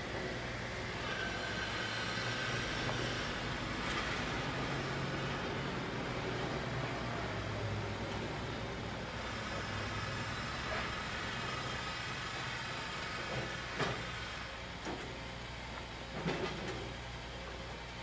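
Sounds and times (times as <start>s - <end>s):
conveyor machinery humming: 0.0s - 18.0s.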